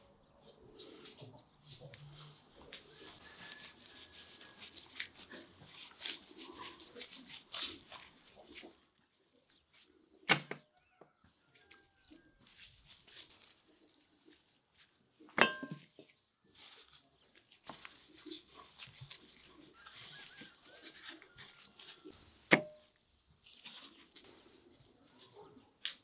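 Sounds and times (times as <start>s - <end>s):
hands handling raw chicken: 0.5s - 26.0s.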